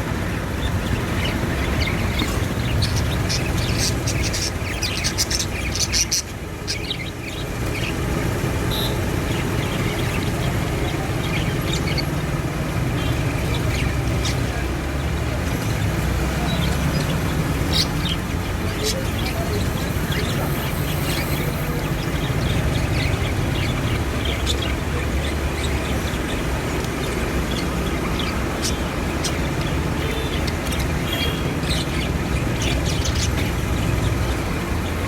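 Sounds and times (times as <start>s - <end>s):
budgerigars chirping: 0.0s - 35.0s.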